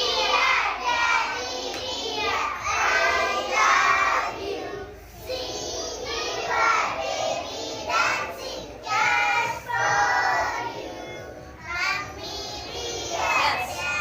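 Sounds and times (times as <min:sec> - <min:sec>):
children singing together: 0:00.0 - 0:14.0.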